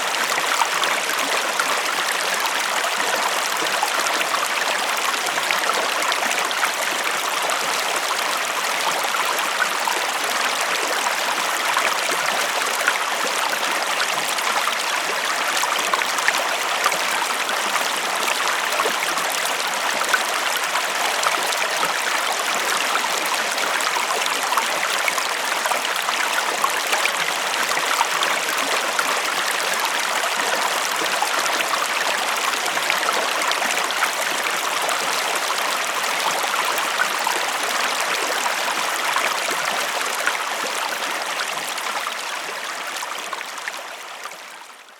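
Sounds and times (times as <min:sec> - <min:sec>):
stream flowing over stones: 0:00.0 - 0:44.9.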